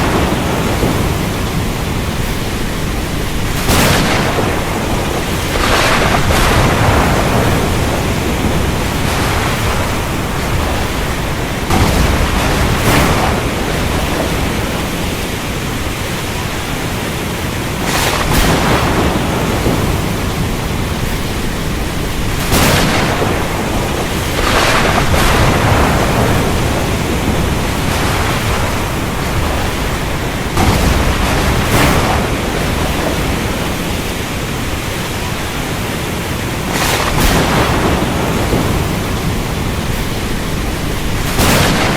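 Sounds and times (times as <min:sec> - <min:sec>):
thunder cracks: 0:00.0 - 0:17.0, 0:17.7 - 0:34.8, 0:36.6 - 0:41.9
heavy rain: 0:00.0 - 0:41.9.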